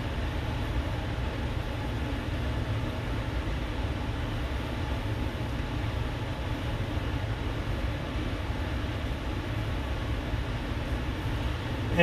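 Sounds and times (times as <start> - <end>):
cooler fan and rushing air: 0.0 - 12.0.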